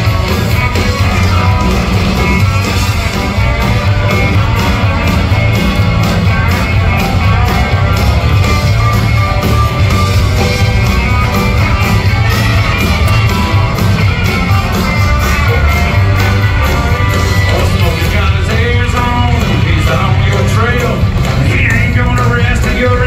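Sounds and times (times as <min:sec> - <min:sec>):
country-rock band playing: 0:00.0 - 0:23.0.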